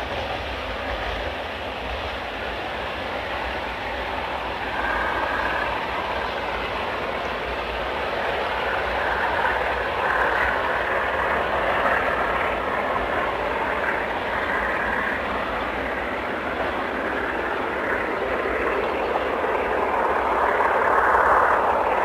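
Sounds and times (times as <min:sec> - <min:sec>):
diesel locomotive engine droning: 0:00.0 - 0:22.0.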